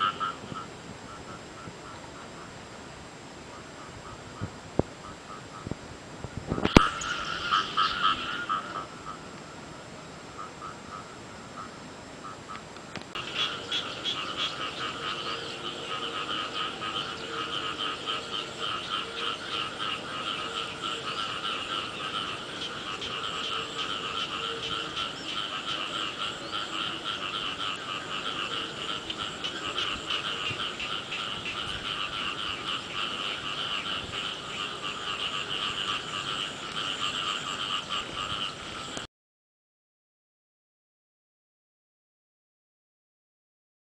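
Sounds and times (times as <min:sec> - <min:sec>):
frogs croaking in chorus: 0:00.0 - 0:02.7, 0:06.5 - 0:39.1.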